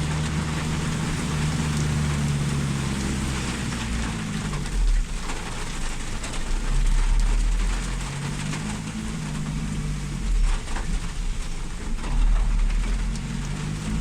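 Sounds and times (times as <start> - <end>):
heavy rain pouring: 0.0 - 14.0
vehicle engine humming: 0.0 - 14.0.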